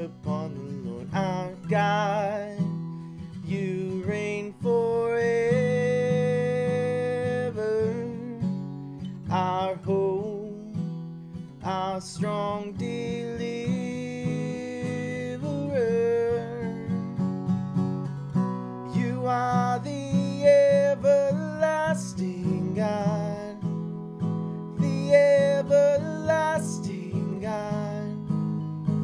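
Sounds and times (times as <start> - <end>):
man singing: 0.0 - 2.8, 3.4 - 8.6, 9.2 - 10.9, 11.6 - 17.1, 18.8 - 23.8, 24.8 - 28.4
acoustic guitar strumming: 0.0 - 29.0.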